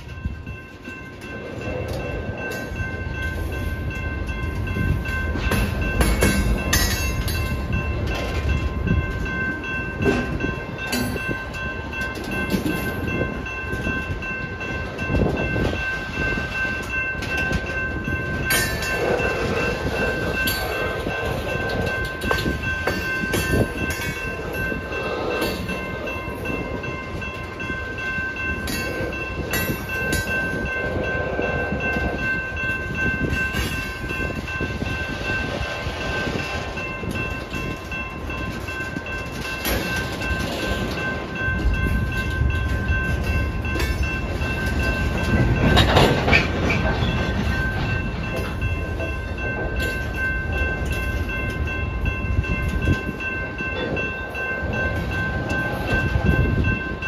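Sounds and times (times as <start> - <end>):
train wheels rumbling and clattering: 0.0 - 57.0.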